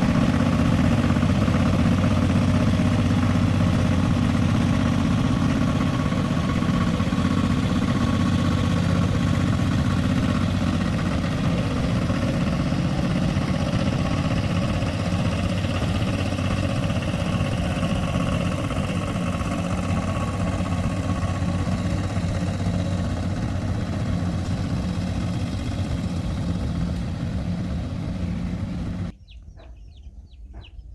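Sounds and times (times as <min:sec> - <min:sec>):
tractor engine idling: 0:00.0 - 0:29.9.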